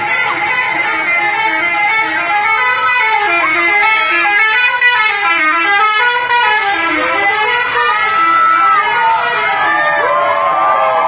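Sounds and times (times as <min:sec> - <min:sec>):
multi-tone musical air horn: 0:00.0 - 0:11.0.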